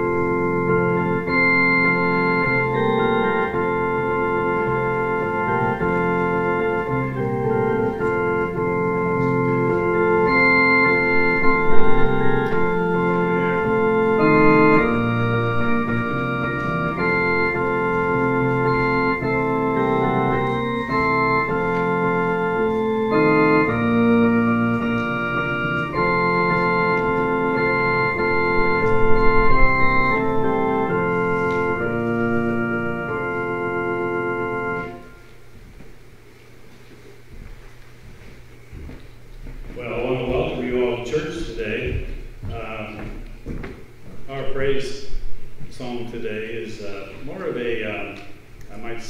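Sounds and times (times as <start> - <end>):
organ playing held chords: 0.0 - 49.0.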